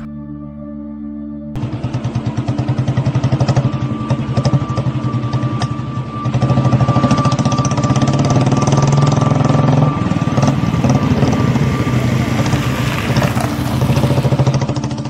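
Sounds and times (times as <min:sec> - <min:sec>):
motorcycle engine passing slowly: 0:01.6 - 0:15.0
steady high-pitched tone: 0:02.1 - 0:15.0.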